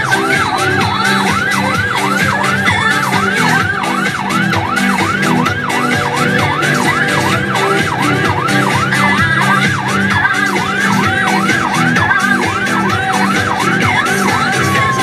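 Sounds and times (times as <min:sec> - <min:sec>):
radio music: 0:00.0 - 0:15.0
siren fast yelp: 0:00.0 - 0:15.0.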